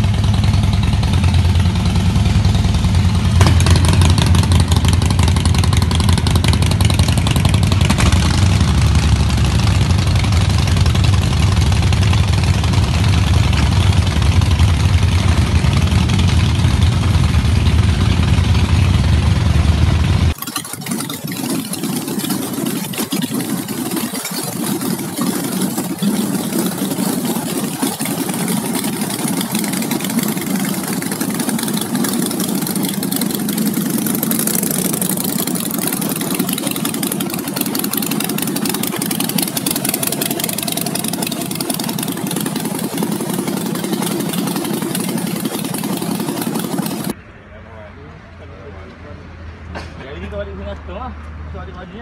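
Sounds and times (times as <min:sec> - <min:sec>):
motorcycle engines throbbing: 0:00.0 - 0:50.6.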